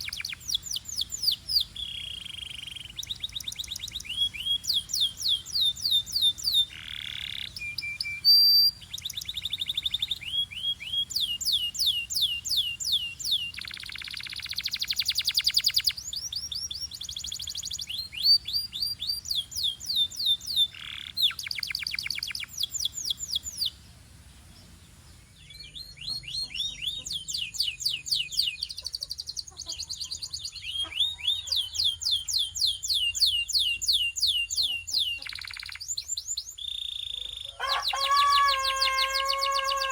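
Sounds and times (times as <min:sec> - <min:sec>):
canary singing: 0:00.0 - 0:23.8, 0:24.6 - 0:39.9.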